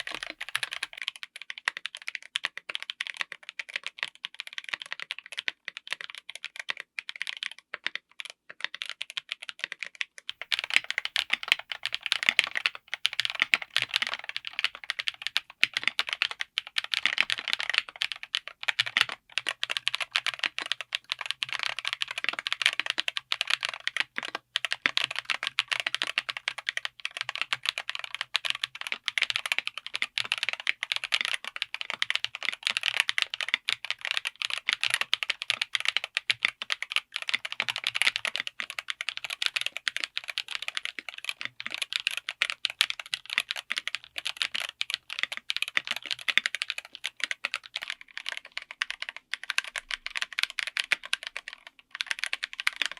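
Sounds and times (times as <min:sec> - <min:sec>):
mechanical keyboard typing: 0:00.0 - 0:52.9.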